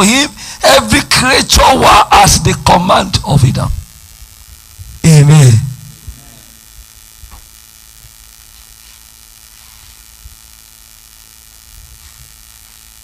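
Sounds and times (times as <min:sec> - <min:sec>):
background hiss: 0:00.0 - 0:13.0
electrical hum: 0:00.0 - 0:13.0.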